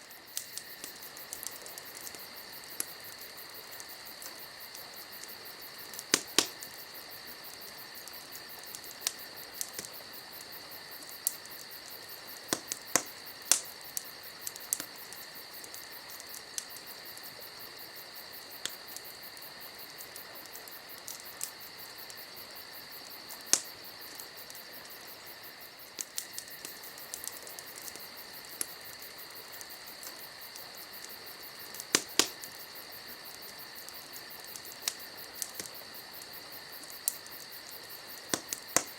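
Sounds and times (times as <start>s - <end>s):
campfire crackling and popping: 0.0s - 38.9s
crickets trilling: 0.0s - 38.9s.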